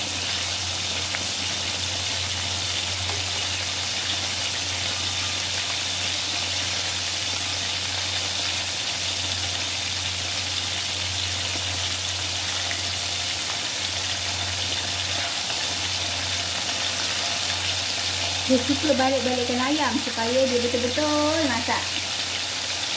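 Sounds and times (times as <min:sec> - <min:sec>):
oil sizzling: 0:00.0 - 0:22.9.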